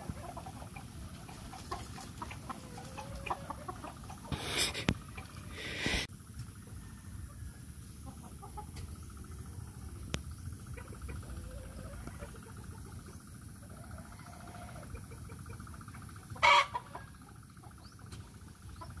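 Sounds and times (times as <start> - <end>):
turkeys and chickens clucking: 0.0 - 19.0.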